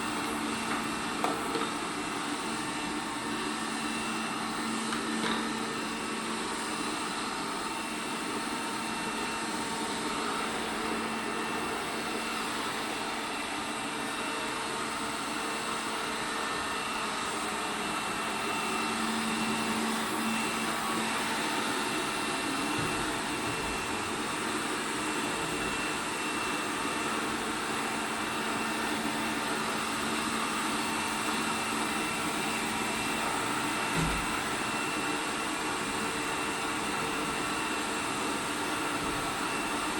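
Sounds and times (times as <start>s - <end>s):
robot vacuum cleaner running: 0.0s - 39.9s.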